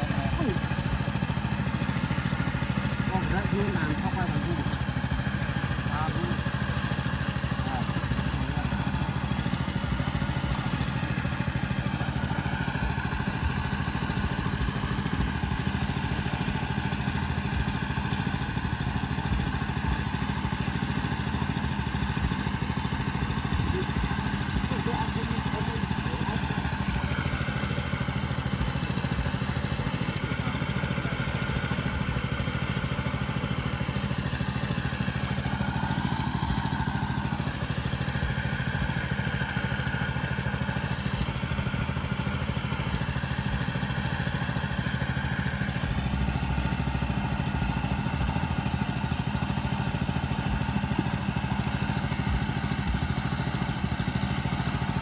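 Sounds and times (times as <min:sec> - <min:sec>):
water pump engine running: 0:00.0 - 0:55.0.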